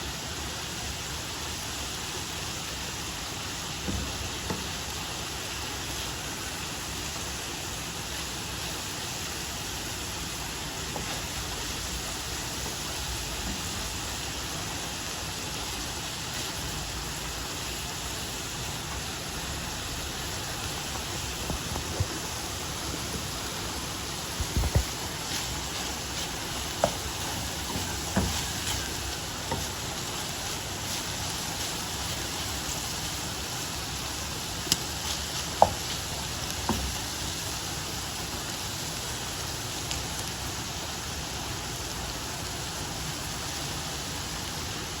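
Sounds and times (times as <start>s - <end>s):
food sizzling in a pan: 0.1s - 45.0s.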